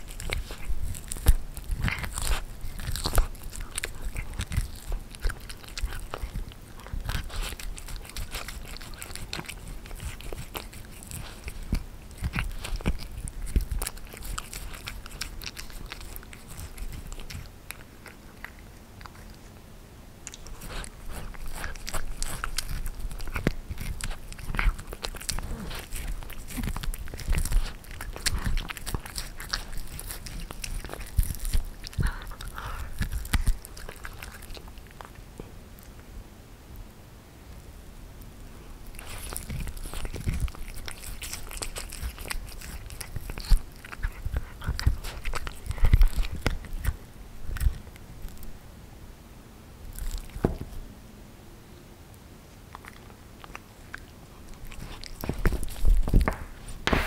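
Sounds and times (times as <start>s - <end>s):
cat chewing bone: 0.0s - 19.6s, 20.2s - 36.0s, 38.5s - 48.6s, 49.8s - 50.8s, 52.7s - 57.0s.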